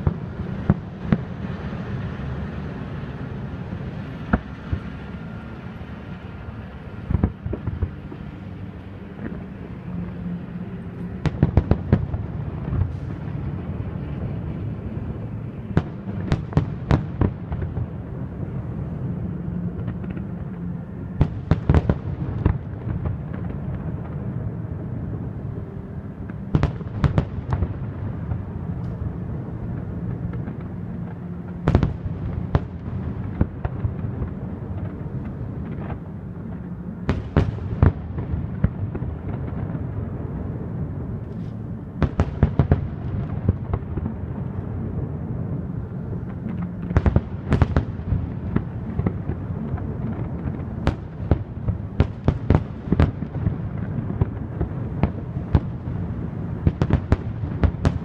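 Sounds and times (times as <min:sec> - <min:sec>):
low rumble: 0:00.0 - 0:58.0.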